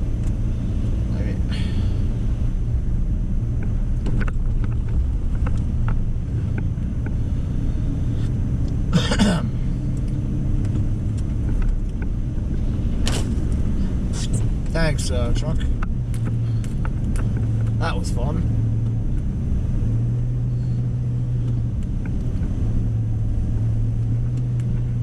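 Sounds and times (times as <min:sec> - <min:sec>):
truck engine and tyres rumbling: 0:00.0 - 0:25.0.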